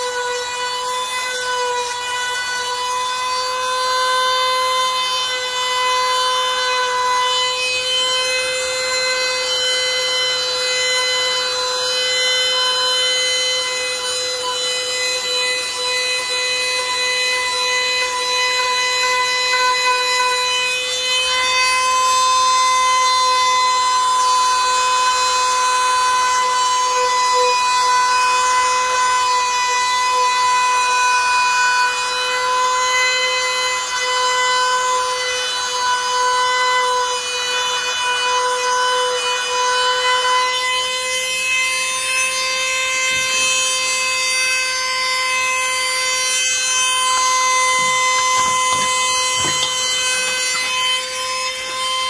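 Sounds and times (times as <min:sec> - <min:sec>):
power tool whine: 0:00.0 - 0:52.0.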